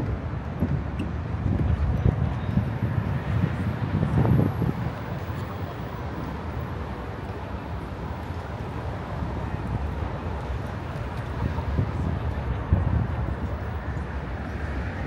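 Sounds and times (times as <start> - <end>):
street traffic: 0.0 - 15.0
wind buffeting the microphone: 0.0 - 15.0.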